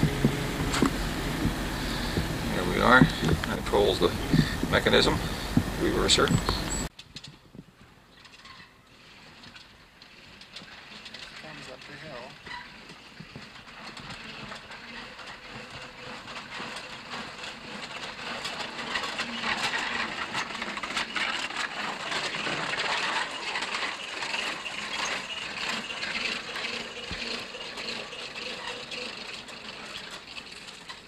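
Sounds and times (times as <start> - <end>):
trolley wheels clattering on rails: 0.0 - 7.4, 8.1 - 31.0.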